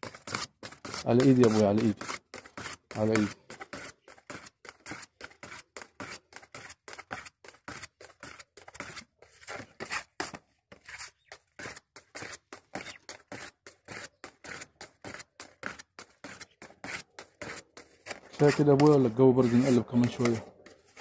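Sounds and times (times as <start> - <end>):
spreader scraping body filler: 0.0 - 21.0.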